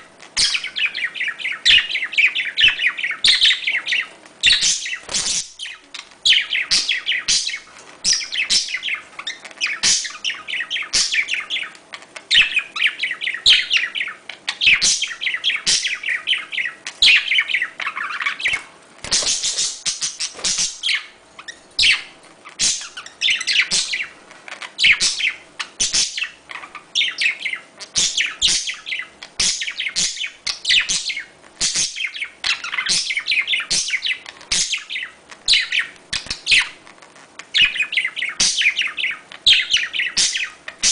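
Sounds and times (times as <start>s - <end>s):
budgerigars chattering and warbling: 0.4s - 36.8s, 37.5s - 40.9s.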